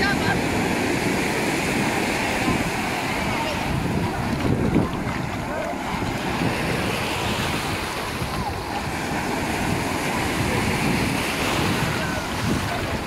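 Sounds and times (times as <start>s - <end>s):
distant shouts and voices: 0.0s - 13.0s
waves washing up sand: 0.0s - 13.0s
wind buffeting microphone: 0.0s - 13.0s.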